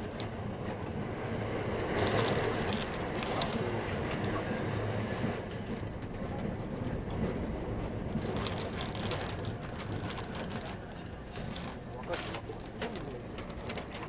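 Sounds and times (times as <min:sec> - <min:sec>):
passing train: 0:00.0 - 0:14.0
train wheels rumbling on rail: 0:00.0 - 0:14.0.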